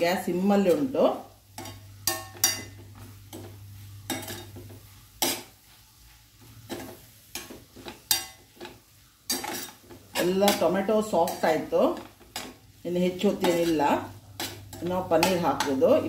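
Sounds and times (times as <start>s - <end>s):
metal spatula scraping frying pan: 1.5s - 16.0s.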